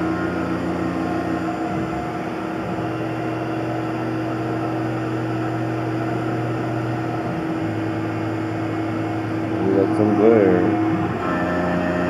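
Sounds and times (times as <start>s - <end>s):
high constant whine: 0.0s - 12.0s
milling machine hum: 0.0s - 12.0s.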